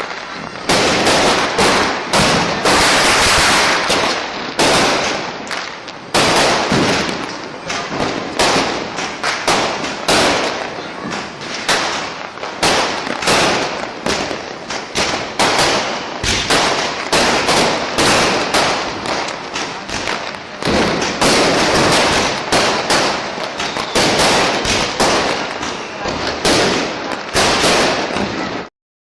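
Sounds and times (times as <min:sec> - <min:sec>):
firecrackers banging: 0:00.0 - 0:28.7.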